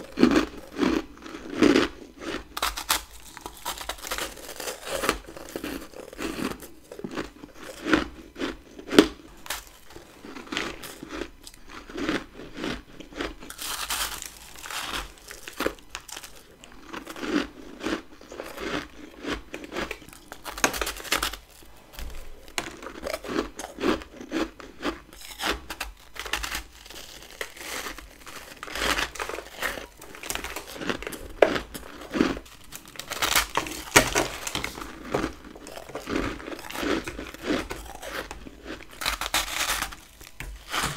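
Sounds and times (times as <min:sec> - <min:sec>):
crunching frosty ice: 0:00.0 - 0:40.9.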